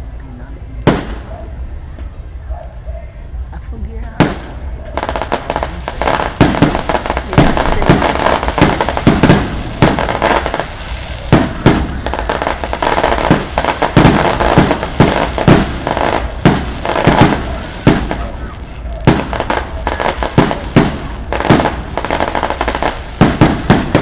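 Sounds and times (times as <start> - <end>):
firecrackers banging: 0.8 - 1.5, 4.0 - 24.0.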